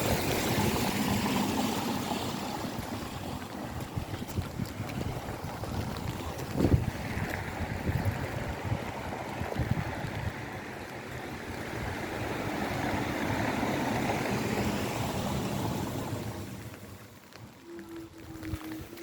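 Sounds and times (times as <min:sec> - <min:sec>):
rain: 0:00.0 - 0:19.0
tyres hissing on wet road: 0:00.0 - 0:19.0.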